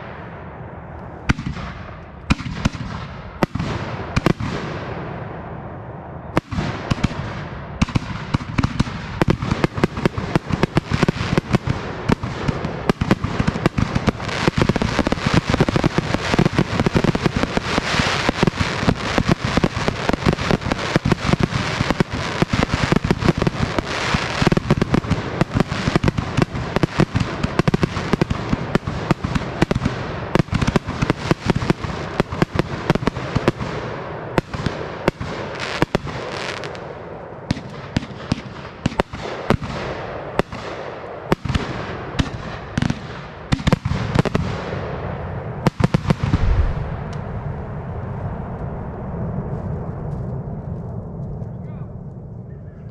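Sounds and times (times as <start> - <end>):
fireworks bangs and crackle: 0.0 - 51.6.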